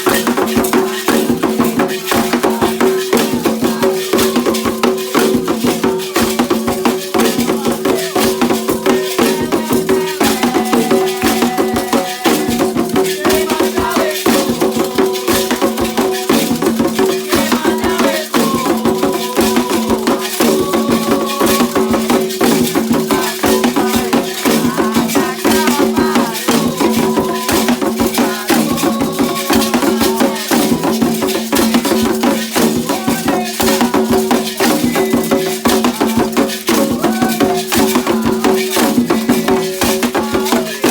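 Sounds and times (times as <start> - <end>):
percussion music: 0.0 - 40.9
shaken rattles: 0.0 - 40.9.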